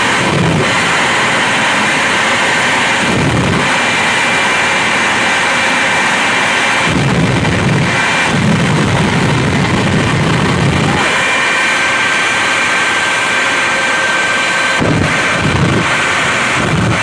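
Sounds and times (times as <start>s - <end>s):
high turbine whine: 0.0s - 17.0s
jet engines roaring: 0.0s - 17.0s
throbbing low rumble: 0.0s - 17.0s.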